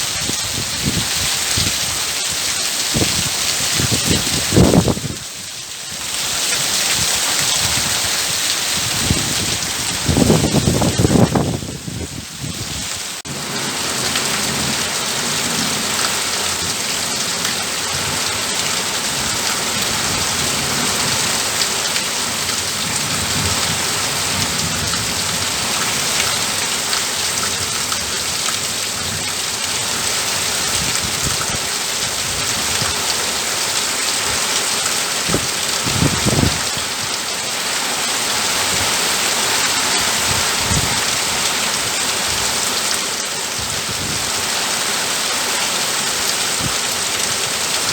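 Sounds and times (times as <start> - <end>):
rain pattering on roof: 0.0 - 47.9.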